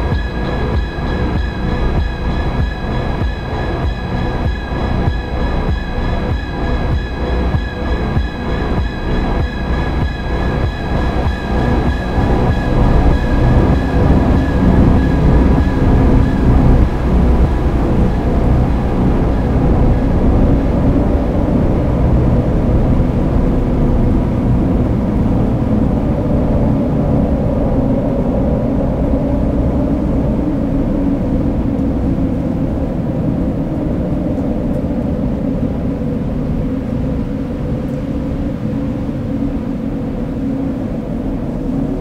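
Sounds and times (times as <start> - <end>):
dark ambient drone music: 0.0 - 42.0.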